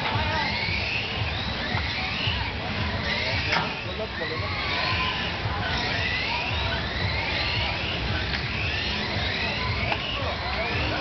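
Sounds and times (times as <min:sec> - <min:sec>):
toy car electric motors whining: 0:00.0 - 0:11.0.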